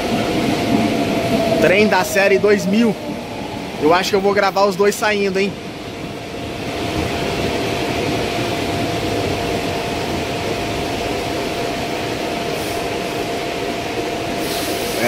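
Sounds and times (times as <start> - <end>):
constant whine: 0.0 - 15.0
train equipment humming: 0.0 - 15.0.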